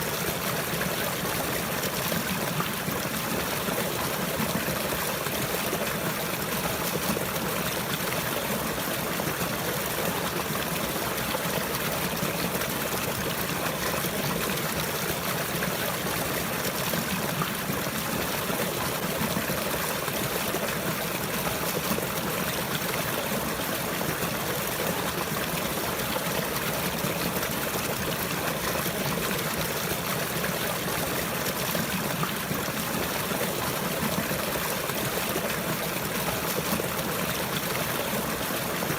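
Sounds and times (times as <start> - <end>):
water flowing and trickling: 0.0 - 38.9.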